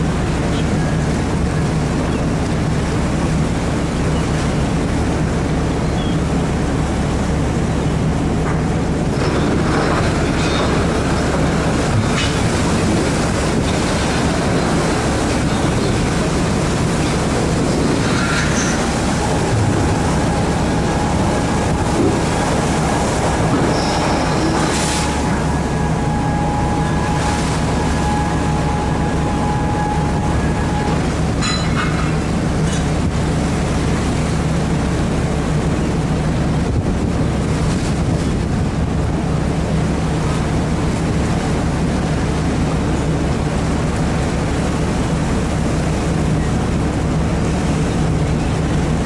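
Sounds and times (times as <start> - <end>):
boat engine drone: 0.0 - 49.0
wind and sea rushing: 0.0 - 49.0.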